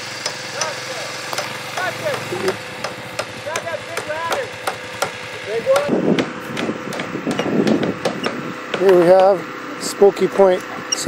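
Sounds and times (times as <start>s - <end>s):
hammer striking wood: 0.2s - 9.4s.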